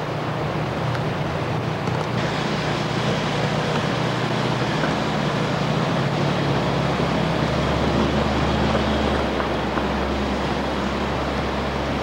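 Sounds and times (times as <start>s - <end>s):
steel wheels running on rails: 0.0s - 12.0s.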